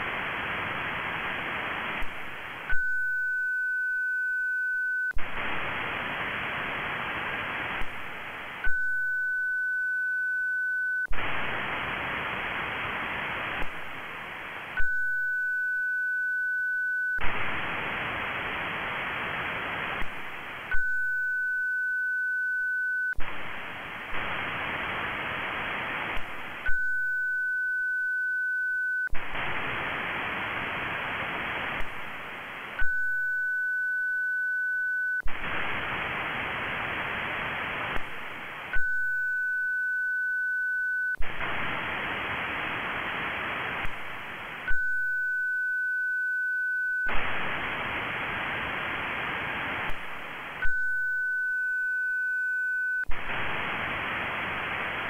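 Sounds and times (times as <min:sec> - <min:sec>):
radio receiver hiss: 0:00.0 - 0:55.0.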